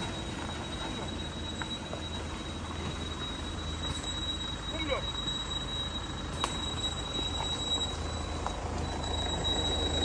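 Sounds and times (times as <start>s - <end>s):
car engine running low: 0.0s - 10.0s
high-pitched tone: 0.0s - 10.0s.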